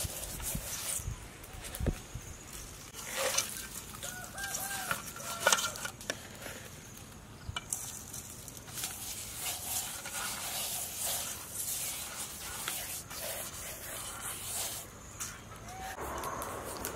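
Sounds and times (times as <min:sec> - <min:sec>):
salt scraping over fish scales: 0:00.0 - 0:01.1, 0:02.9 - 0:07.0, 0:07.7 - 0:16.9.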